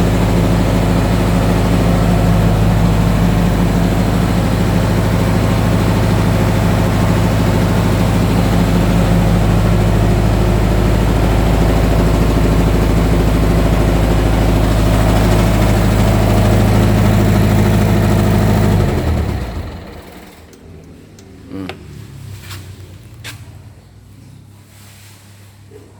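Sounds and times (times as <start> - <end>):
diesel engine running: 0.0 - 24.2.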